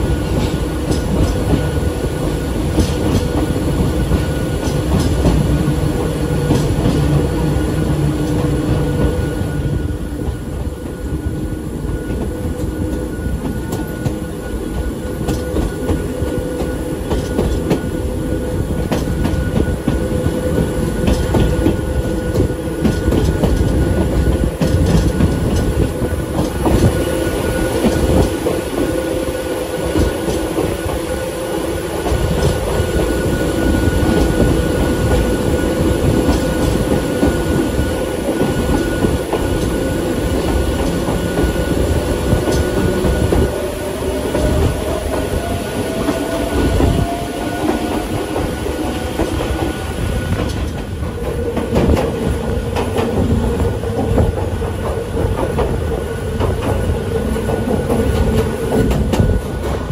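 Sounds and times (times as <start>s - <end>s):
train rumble: 0.0s - 59.9s
wheels clacking on rails: 0.0s - 59.9s.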